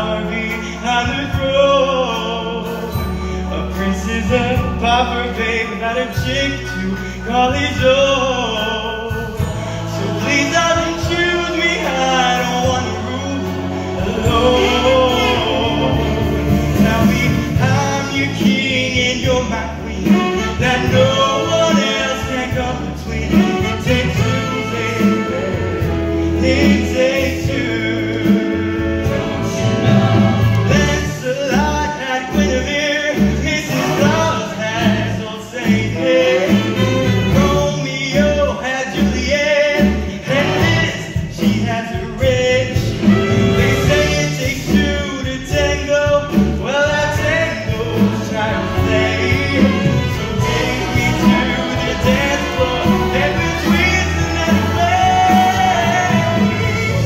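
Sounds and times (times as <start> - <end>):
man singing into microphone: 0.0 - 28.8, 30.6 - 57.0
band accompaniment: 0.0 - 57.0
backing ensemble voices: 6.4 - 57.0.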